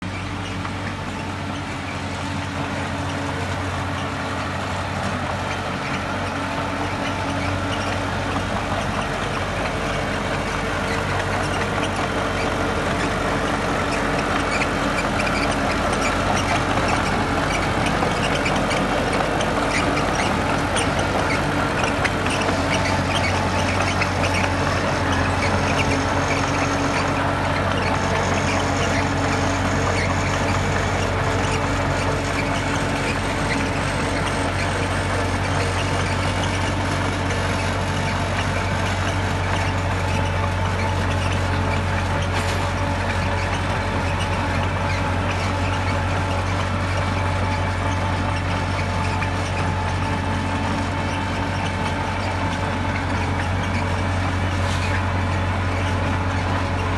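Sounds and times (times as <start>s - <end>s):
diesel engine running: 0.0s - 56.9s
squeaks and clanks: 0.0s - 56.9s.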